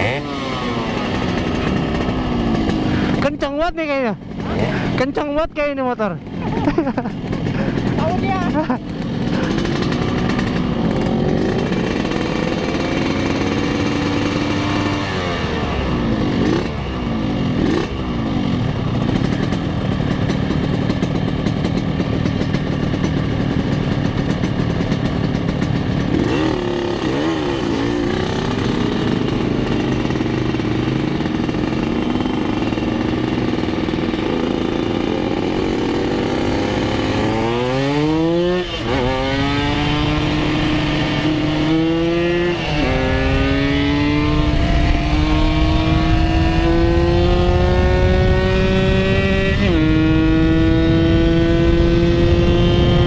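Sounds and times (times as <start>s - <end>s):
motorcycle engines idling: 0.0s - 49.5s
motorcycles revving away: 0.0s - 53.0s.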